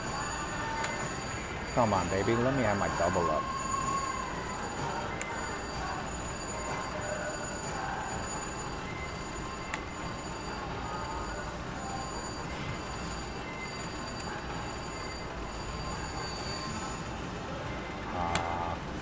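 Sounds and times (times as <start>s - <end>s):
slot machine ringing and chiming: 0.0s - 18.2s
high held tones: 0.0s - 18.8s.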